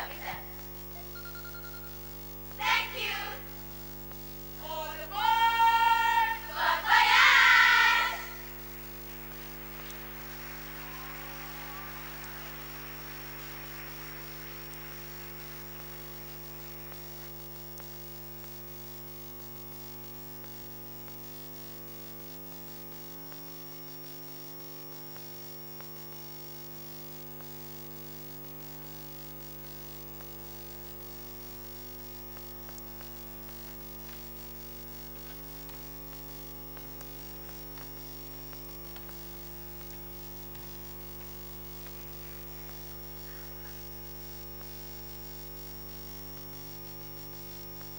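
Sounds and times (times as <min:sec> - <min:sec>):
electrical mains hum: 0:00.0 - 0:47.9
faint hiss: 0:00.0 - 0:47.9.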